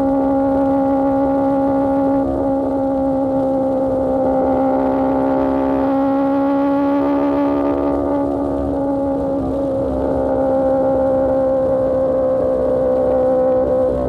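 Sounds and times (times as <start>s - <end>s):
motorcycle engine at steady revs: 0.0s - 14.0s.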